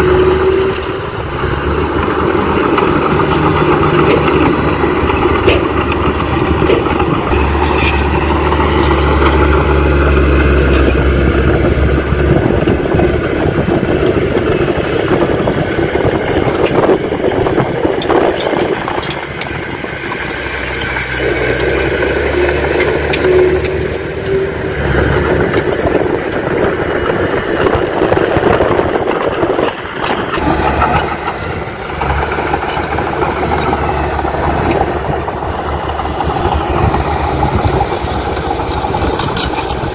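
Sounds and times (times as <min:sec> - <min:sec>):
heavy diesel machinery rumble: 0:00.0 - 0:39.9
knocks and rattles: 0:00.0 - 0:39.9.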